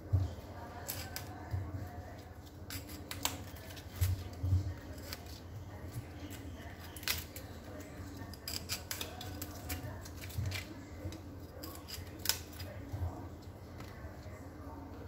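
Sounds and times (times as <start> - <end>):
knife cutting cauliflower stems: 0.7 - 12.8.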